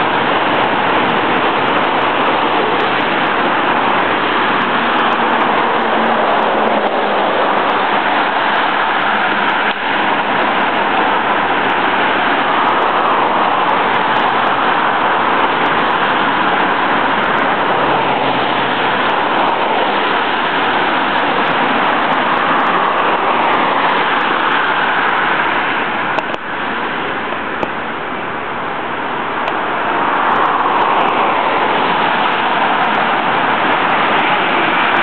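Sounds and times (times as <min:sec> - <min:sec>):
road traffic rushing: 0:00.0 - 0:35.0.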